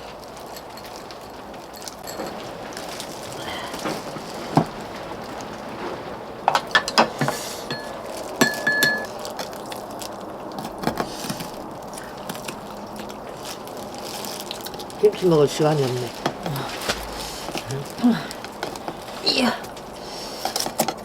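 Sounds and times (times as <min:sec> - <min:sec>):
utensils clinking against bowls: 0:00.0 - 0:05.6, 0:06.4 - 0:21.0
steady low hiss: 0:00.0 - 0:21.0.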